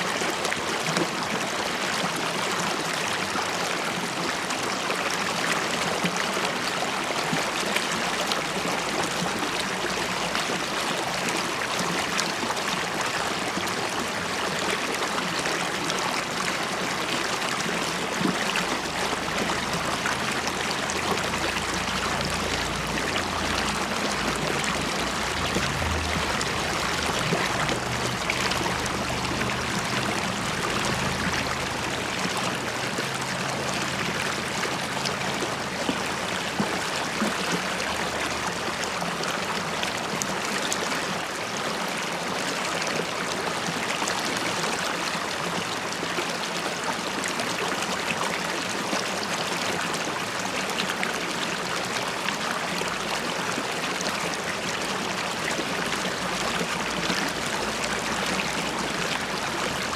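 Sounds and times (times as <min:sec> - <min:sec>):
river water running over stones: 0:00.0 - 0:59.9.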